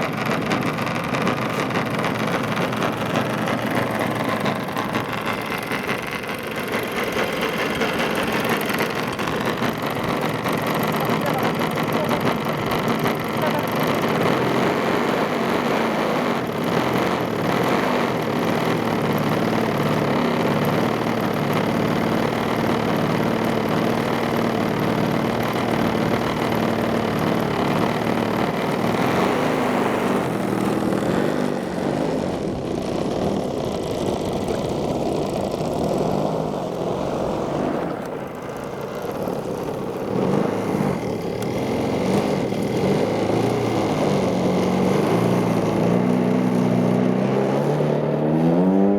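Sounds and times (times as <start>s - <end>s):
model airplane engine and propeller: 0.0s - 48.9s.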